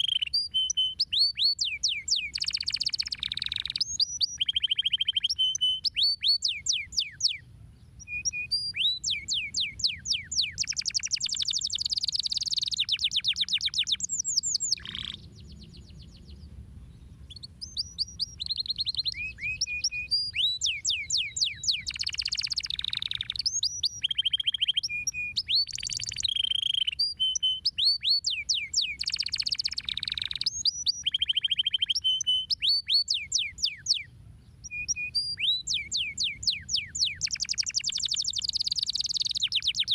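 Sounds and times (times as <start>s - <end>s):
canary singing: 0.0s - 7.4s, 8.0s - 16.3s, 17.3s - 39.9s.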